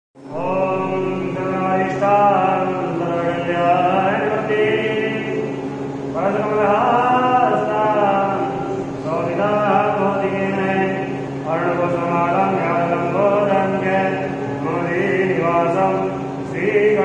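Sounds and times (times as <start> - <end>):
person chanting mantras: 0.2 - 17.0
steady low hum: 0.2 - 17.0.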